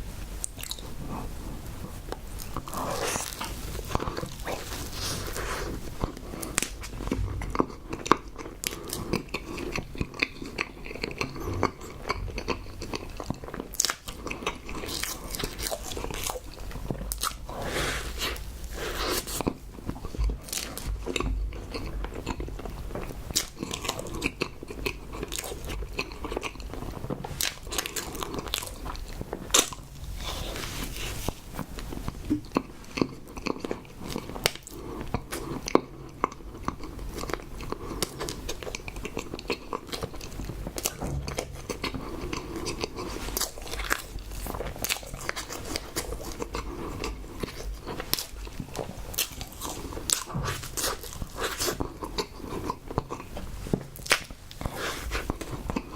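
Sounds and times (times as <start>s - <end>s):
person chewing food: 0.0s - 55.9s.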